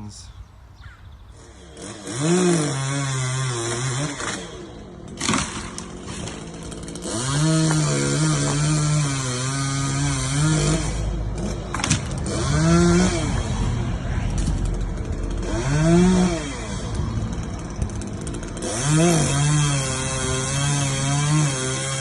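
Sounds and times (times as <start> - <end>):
chainsaw cutting wood: 1.3 - 22.0.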